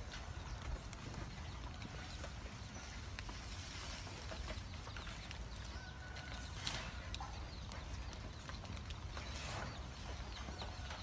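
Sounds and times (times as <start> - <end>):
elephant feeding on grass: 0.0 - 11.0.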